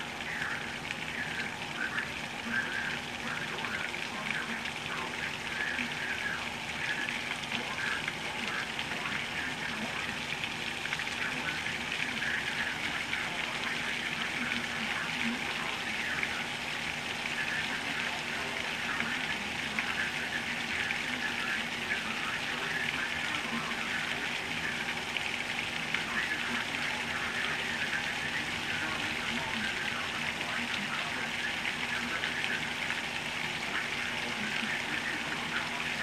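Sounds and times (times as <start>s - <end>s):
torrential rain pouring: 0.0s - 36.0s.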